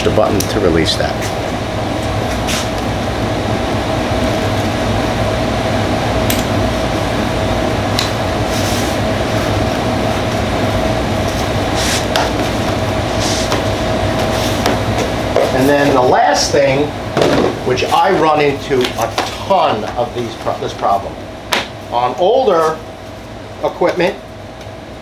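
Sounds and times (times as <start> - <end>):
machine hum with thin whine: 0.0 - 25.0.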